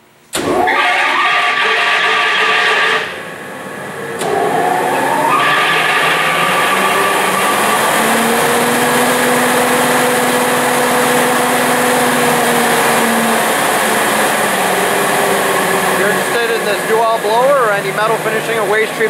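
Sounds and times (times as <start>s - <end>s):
blower rushing air with hum: 3.0s - 19.0s.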